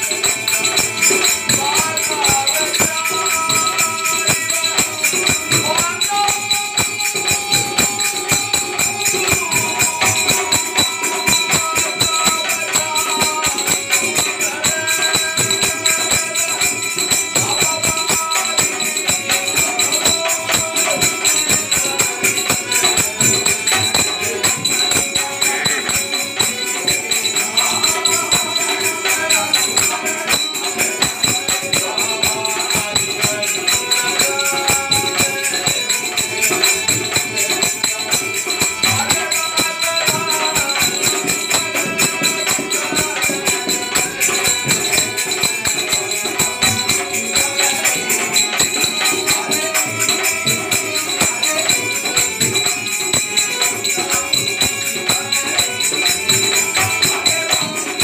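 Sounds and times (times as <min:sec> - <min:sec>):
hand drum: 0:00.0 - 0:58.0
harmonium melody: 0:00.0 - 0:58.0.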